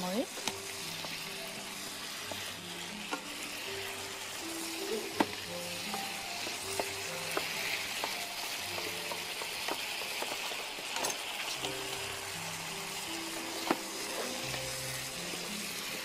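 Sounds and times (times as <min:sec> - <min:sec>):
sausage sizzling in a frying pan: 0:00.0 - 0:16.0.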